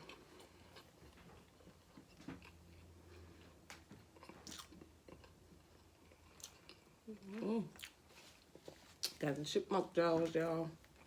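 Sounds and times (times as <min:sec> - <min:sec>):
chewing food: 0:00.0 - 0:09.3.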